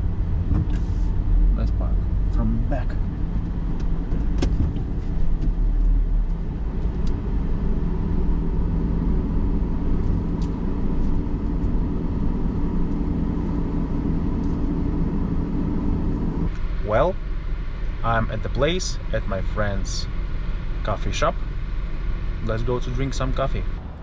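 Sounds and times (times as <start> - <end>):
car engine and tyres humming: 0.0 - 24.0.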